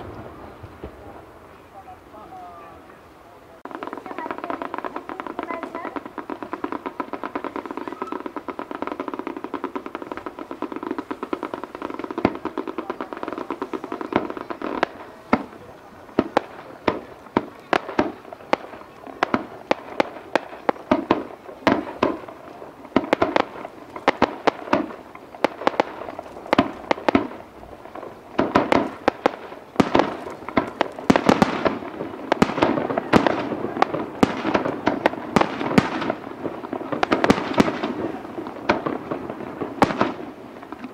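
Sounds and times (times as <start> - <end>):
fireworks crackling: 0.0 - 40.9.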